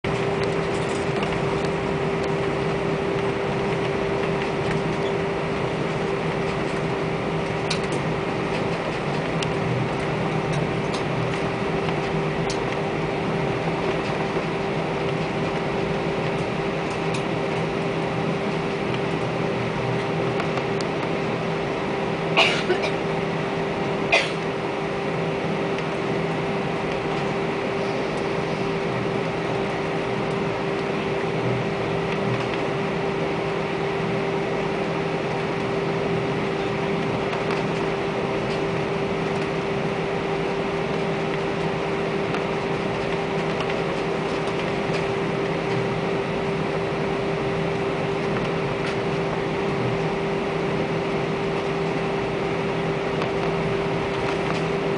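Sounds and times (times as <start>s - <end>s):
airplane cabin hum: 0.0s - 54.9s.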